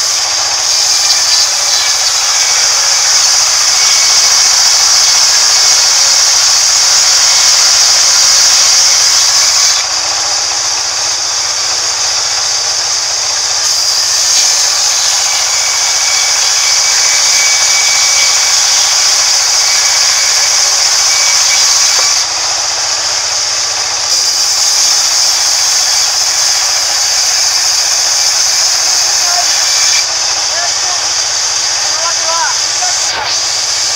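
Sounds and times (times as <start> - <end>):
band saw cutting wood: 0.0 - 33.9.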